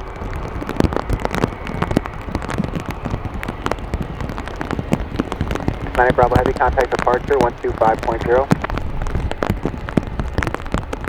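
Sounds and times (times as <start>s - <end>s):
raindrops striking close: 0.0s - 11.0s
steady low rumble: 0.0s - 11.0s.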